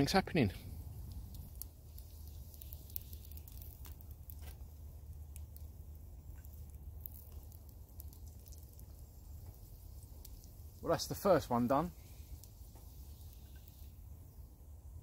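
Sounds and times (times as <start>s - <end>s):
fire crackling and popping: 0.0s - 14.4s
sausage sizzling in a pan: 1.1s - 14.1s.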